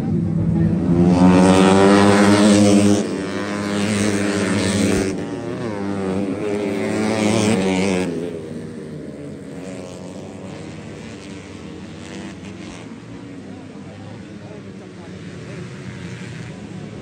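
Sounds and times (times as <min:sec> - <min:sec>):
racing motorcycle engines revving: 0:00.0 - 0:17.0.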